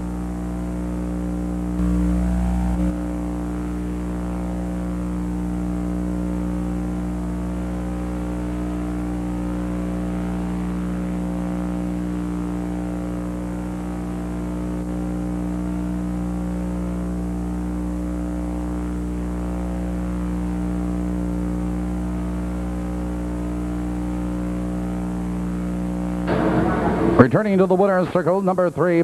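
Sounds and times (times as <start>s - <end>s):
electrical hum and buzz: 0.0s - 29.0s.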